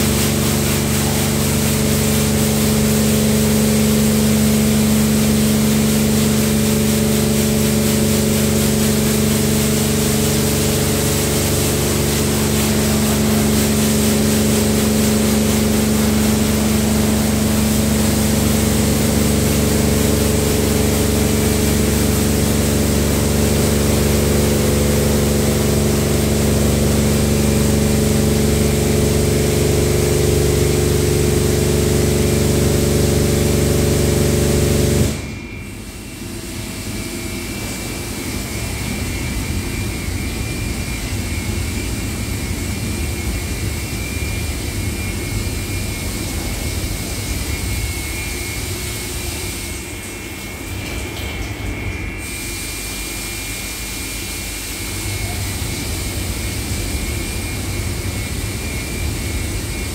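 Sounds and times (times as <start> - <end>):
pump and spray jets hissing: 0.0 - 59.9
thin high whine: 0.0 - 59.9.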